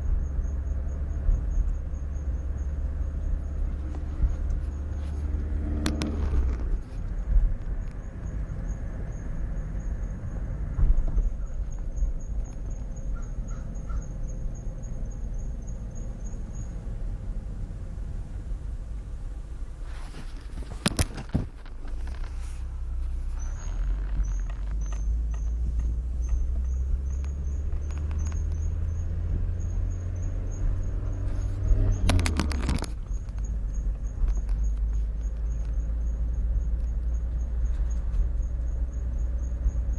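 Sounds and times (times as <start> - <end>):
brakes squeaking: 0.0 - 39.9
low road rumble: 0.0 - 39.9.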